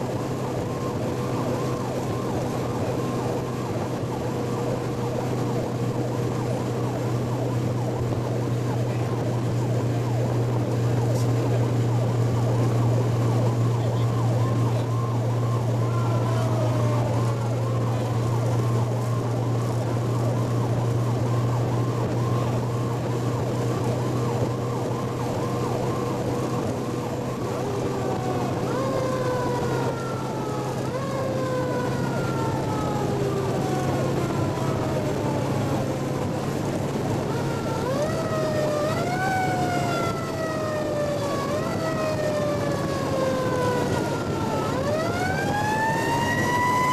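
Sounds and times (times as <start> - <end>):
fire truck siren: 0.0 - 46.9
low engine drone: 0.0 - 46.9.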